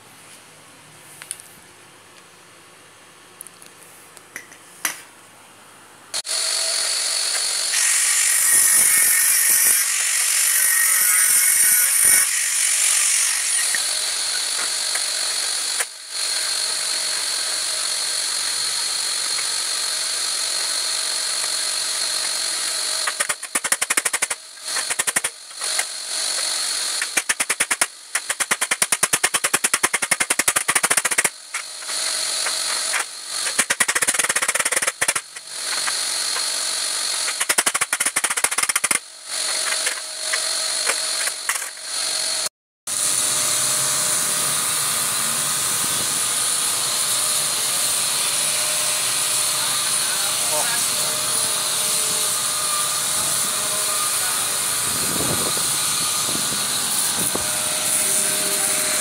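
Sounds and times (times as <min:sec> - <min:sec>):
angle grinder on sheet metal: 0:06.2 - 0:59.0.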